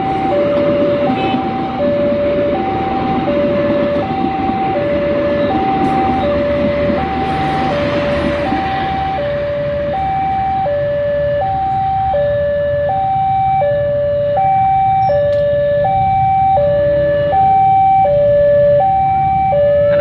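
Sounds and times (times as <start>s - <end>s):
two-tone warning alarm: 0.0s - 20.0s.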